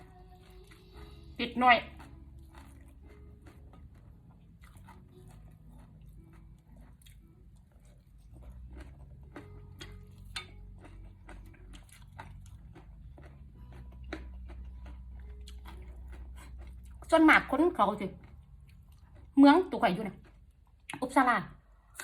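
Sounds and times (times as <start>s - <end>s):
low hum: 0.0s - 19.4s
person chewing crunchy food: 0.0s - 21.0s.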